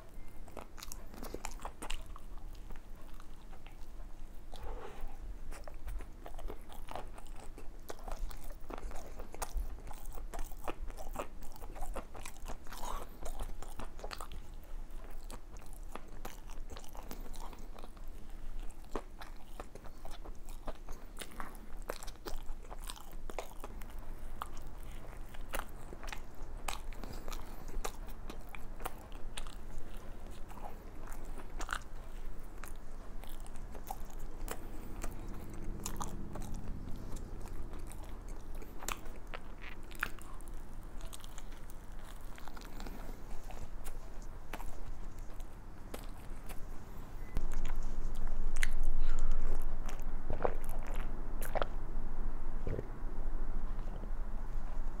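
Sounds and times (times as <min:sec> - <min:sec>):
biting and chewing doughnut: 0:00.0 - 0:51.8.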